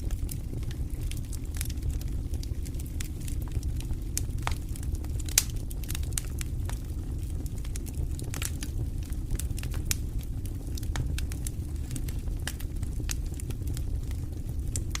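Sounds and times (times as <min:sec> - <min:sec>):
campfire crackling: 0:00.0 - 0:15.0
steady low rumble: 0:00.0 - 0:15.0.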